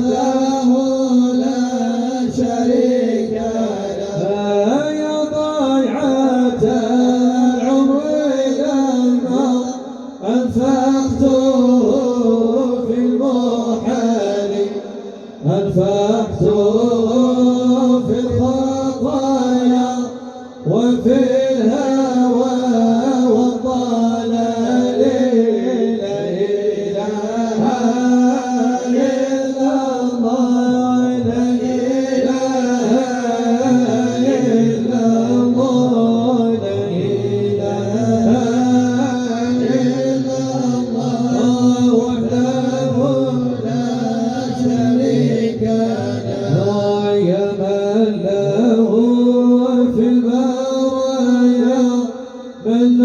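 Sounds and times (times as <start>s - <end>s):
men singing devotional chant: 0.0s - 53.0s.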